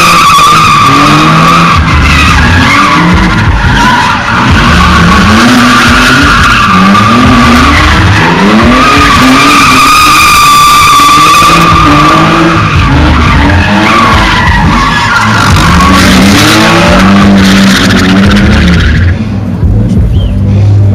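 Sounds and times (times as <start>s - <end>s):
tyres squealing: 0.0s - 19.1s
car engine revving: 0.0s - 20.9s.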